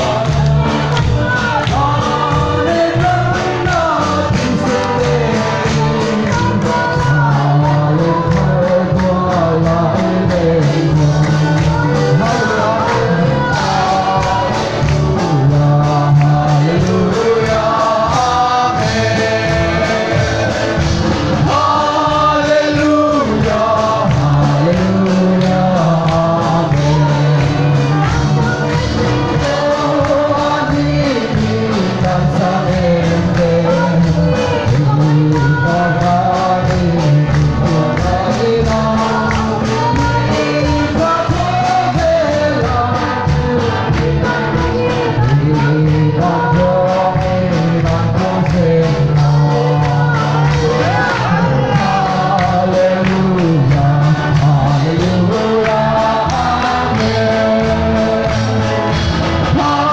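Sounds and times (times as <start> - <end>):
choir singing gospel: 0.0 - 59.9
instrumental accompaniment with beat: 0.0 - 59.9.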